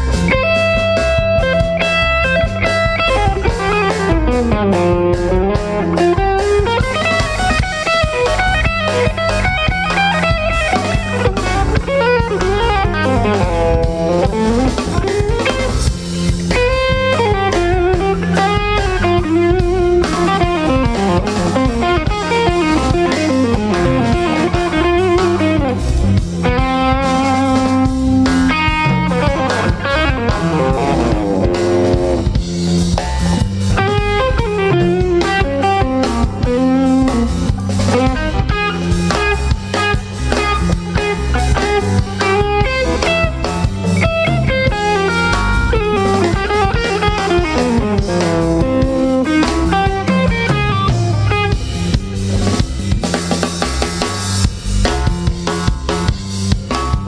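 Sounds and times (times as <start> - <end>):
electric guitar solo: 0.0 - 54.1
drum kit: 0.0 - 57.0
electric bass: 0.0 - 57.0.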